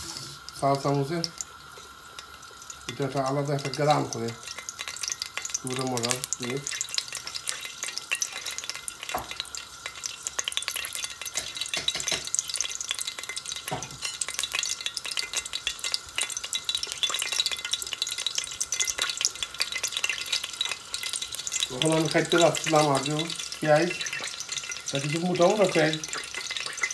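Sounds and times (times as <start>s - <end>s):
oil sizzling in a pot: 0.0s - 26.9s.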